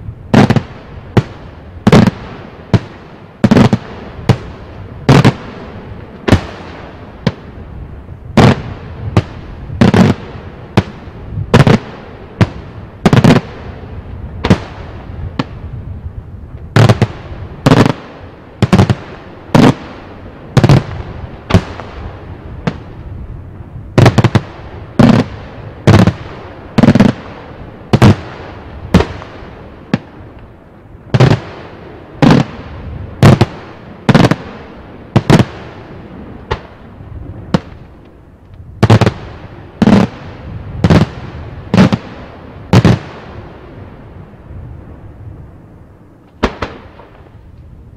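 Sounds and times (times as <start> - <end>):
fireworks bursting with loud bangs: 0.0 - 38.0, 38.8 - 44.1, 46.2 - 47.5.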